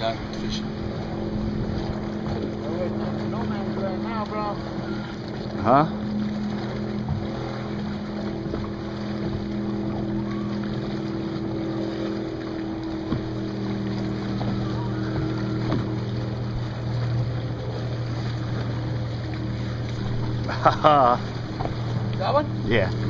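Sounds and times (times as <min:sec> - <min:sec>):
electric boat motor humming: 0:00.0 - 0:23.0.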